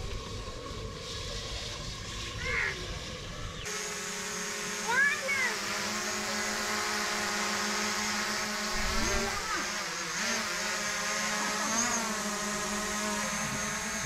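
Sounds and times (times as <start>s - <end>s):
quadcopter drone hovering: 0.0s - 14.0s.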